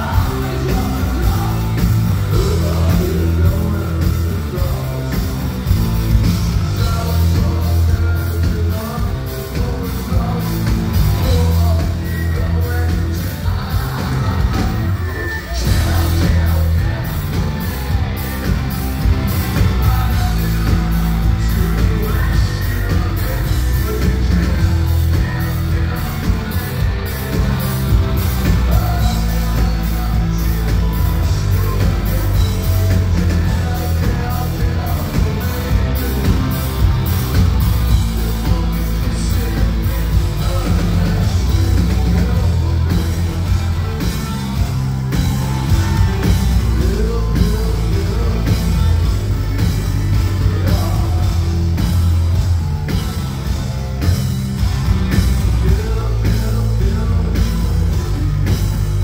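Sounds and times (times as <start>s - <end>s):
heavy booming bass: 0.0s - 59.0s
live rock band playing: 0.0s - 59.0s
person singing: 0.0s - 59.0s
steady drum beat: 0.0s - 59.0s.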